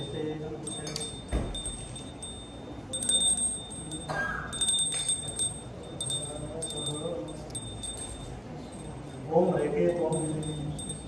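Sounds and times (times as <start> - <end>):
small metal bell ringing: 0.0 - 11.0.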